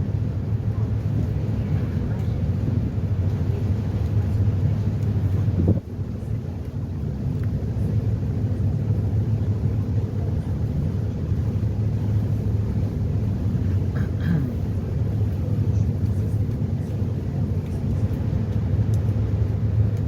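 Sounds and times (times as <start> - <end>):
ferry engines droning: 0.0 - 20.0.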